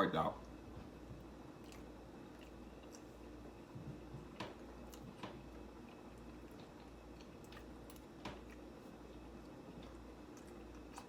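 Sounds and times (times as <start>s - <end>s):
low steady hum: 0.0s - 11.0s
chewing pasta: 0.3s - 11.0s.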